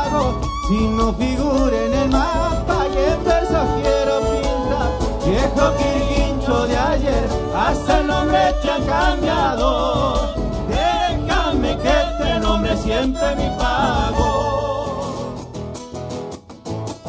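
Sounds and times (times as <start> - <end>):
bass drum beat: 0.0 - 15.3
violin melody: 0.0 - 15.5
acoustic guitar: 0.0 - 17.0.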